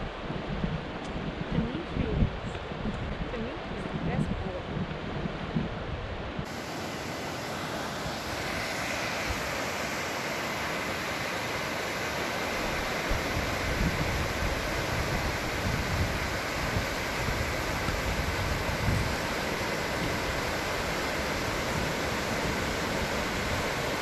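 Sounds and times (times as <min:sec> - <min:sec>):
wind rumbling on microphone: 0:00.0 - 0:06.6, 0:10.5 - 0:24.0
flowing water rushing: 0:00.0 - 0:24.0.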